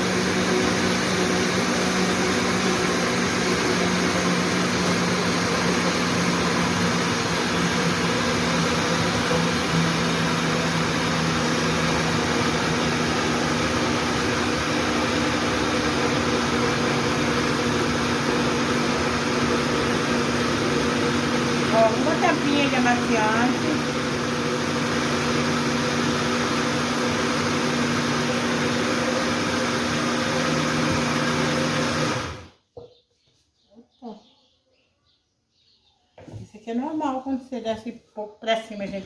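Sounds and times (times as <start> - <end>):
electric blender running: 0.0 - 32.6.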